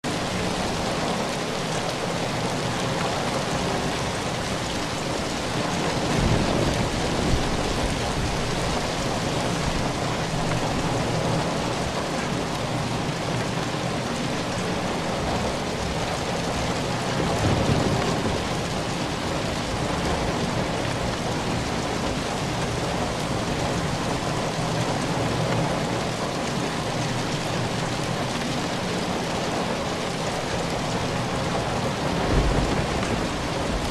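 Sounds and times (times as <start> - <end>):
heavy rain on a metal roof: 0.0 - 33.9.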